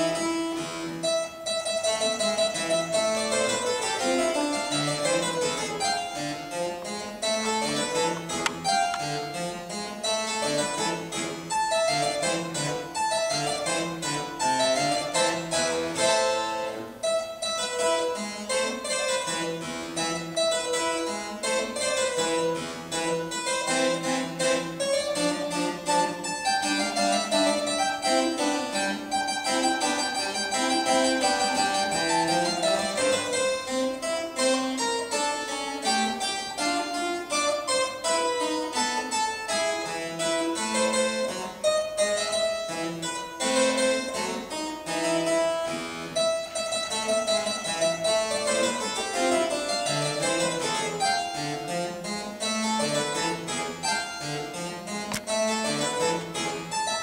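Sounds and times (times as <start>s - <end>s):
solo harpsichord: 0.0s - 57.0s.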